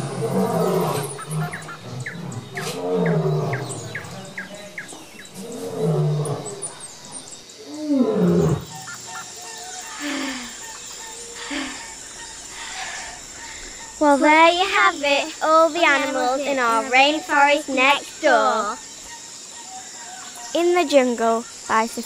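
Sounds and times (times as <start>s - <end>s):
lions growling and roaring: 0.0s - 8.9s, 9.6s - 18.7s
birds chirping: 0.0s - 22.0s.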